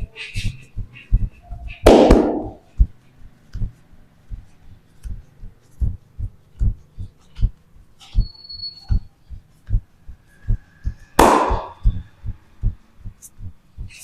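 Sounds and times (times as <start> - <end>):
soft low thumps: 0.0 - 8.3, 8.9 - 14.0.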